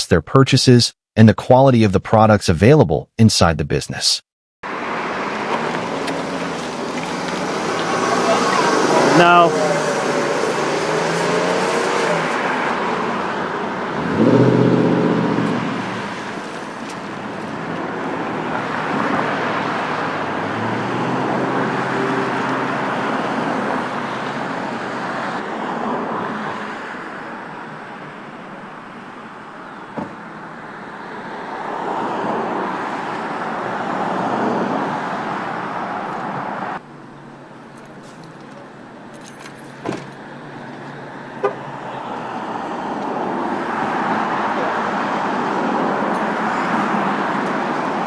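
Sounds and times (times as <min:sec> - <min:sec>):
cars driving past: 0:04.7 - 0:48.0.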